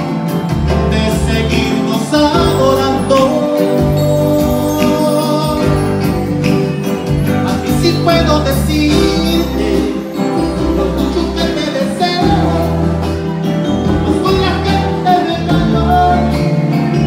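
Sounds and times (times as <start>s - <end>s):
guitar melody: 0.0s - 17.0s
live band playing a ballad: 0.0s - 17.0s
sustained bass notes: 0.0s - 17.0s.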